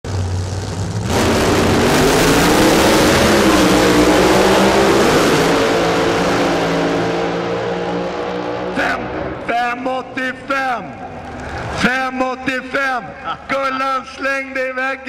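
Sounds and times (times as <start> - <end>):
drag car engines revving: 0.0 - 14.2.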